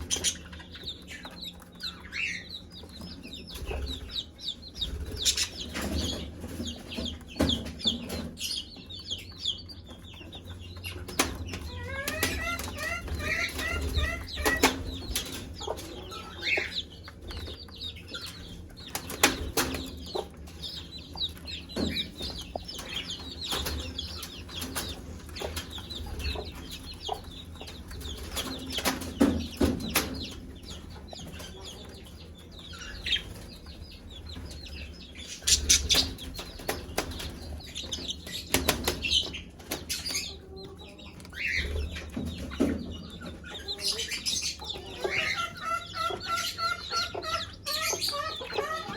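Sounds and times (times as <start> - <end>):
chicks peeping: 0.0 - 48.9
hen clucking: 0.0 - 48.9.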